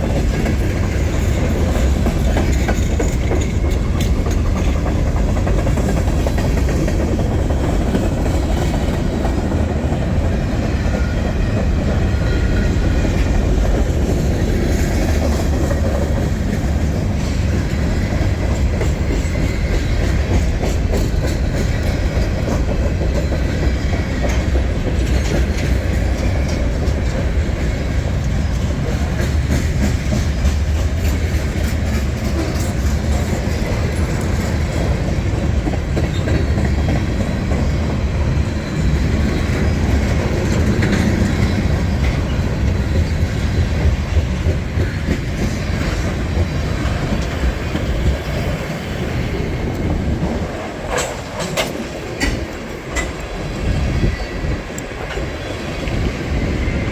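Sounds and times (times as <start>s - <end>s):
freight train rumbling past: 0.0s - 56.9s
train wheels clacking on rail joints: 0.0s - 56.9s.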